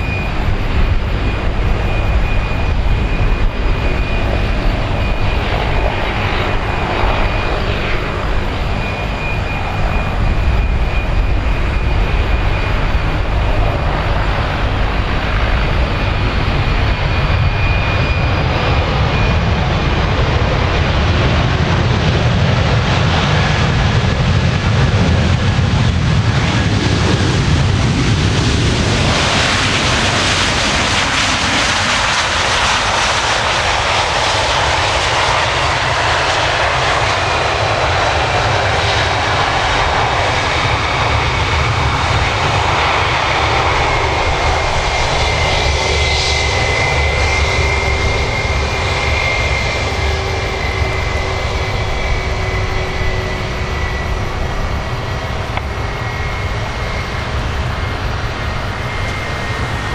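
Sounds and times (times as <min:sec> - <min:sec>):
jet engines running at low power: 0:00.0 - 0:59.9.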